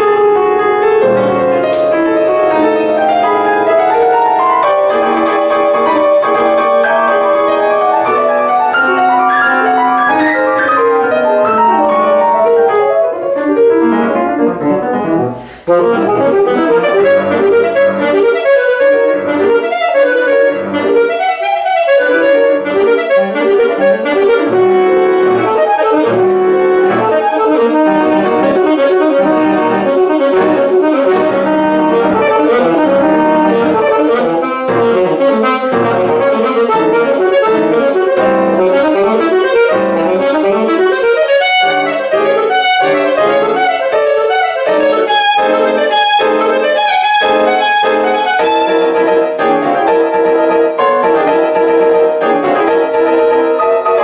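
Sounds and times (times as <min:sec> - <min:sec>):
piano chords: 0:00.0 - 0:54.0
saxophone: 0:00.0 - 0:54.0.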